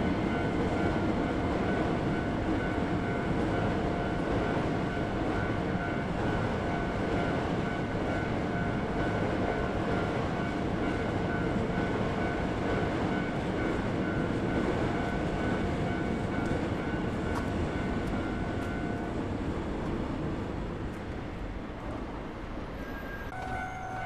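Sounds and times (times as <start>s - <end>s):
electric train rumbling past: 0.0s - 24.0s.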